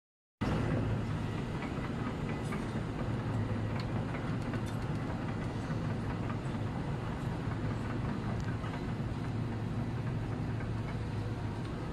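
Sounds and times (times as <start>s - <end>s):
low rumbling noise: 0.4s - 11.9s.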